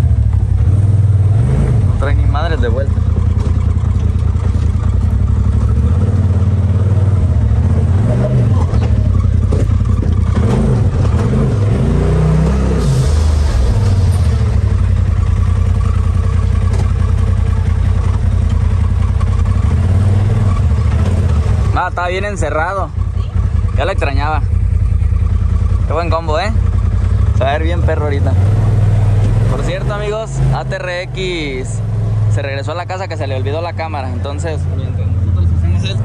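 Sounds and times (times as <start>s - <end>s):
engine revving: 0.0s - 36.0s
engine running at low revs: 0.0s - 36.0s.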